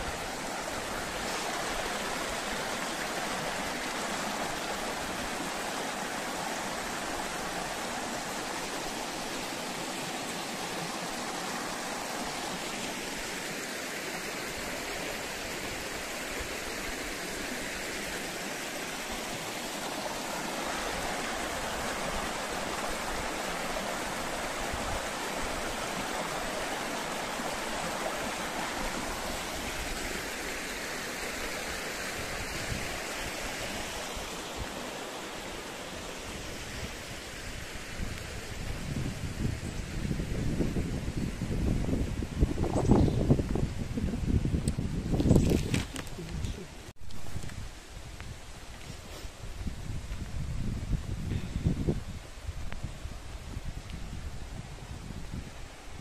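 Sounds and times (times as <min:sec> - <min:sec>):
stream babbling over stones: 0:00.0 - 0:47.8.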